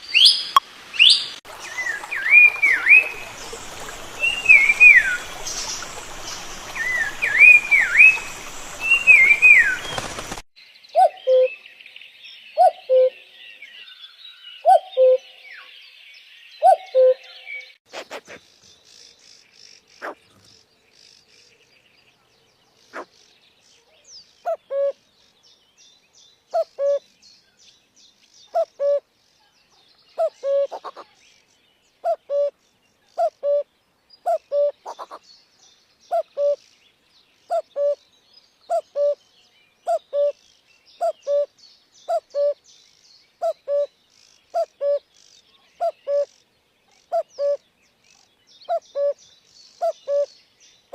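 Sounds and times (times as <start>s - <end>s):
small birds twittering: 0.0s - 50.9s.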